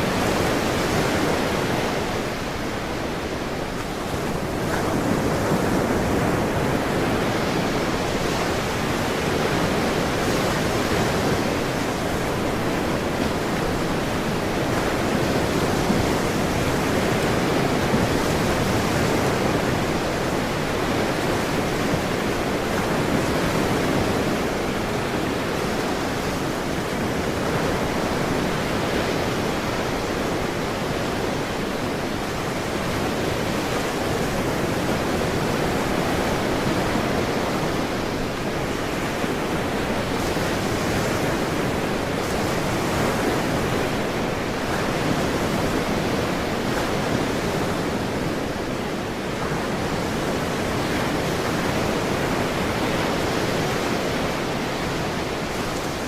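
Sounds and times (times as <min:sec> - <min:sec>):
ocean surf breaking waves: 0:00.0 - 0:56.0.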